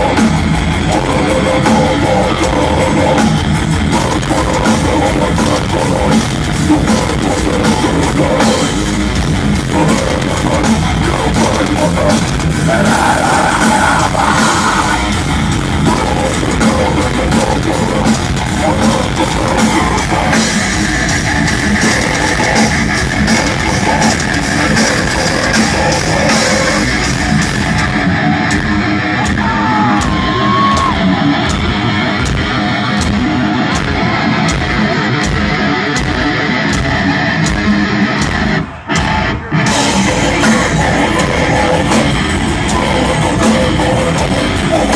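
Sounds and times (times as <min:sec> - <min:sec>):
drum kit: 0:00.0 - 0:44.9
electric guitar: 0:00.0 - 0:44.9.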